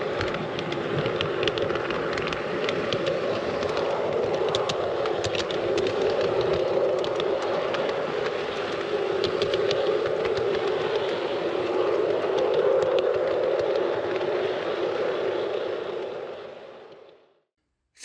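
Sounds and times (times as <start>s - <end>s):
wheels clicking on rails: 0.0s - 17.2s.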